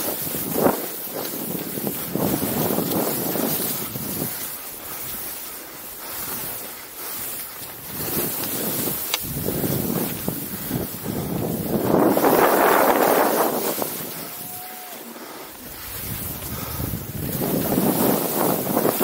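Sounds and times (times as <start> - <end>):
skis scraping over snow: 0.0 - 19.0
wind over microphone: 0.0 - 19.0.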